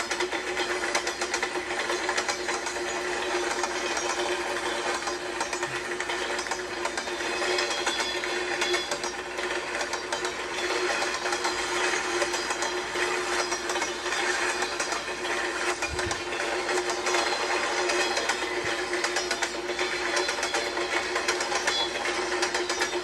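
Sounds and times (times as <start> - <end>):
train clickety-clack: 0.0 - 23.0.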